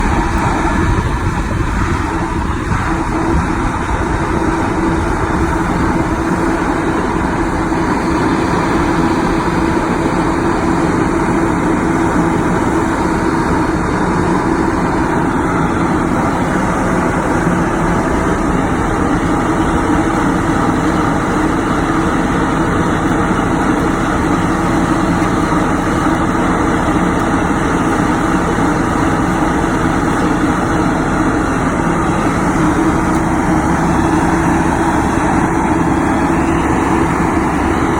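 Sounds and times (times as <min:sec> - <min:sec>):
heavy engine running steadily: 0:00.0 - 0:37.9.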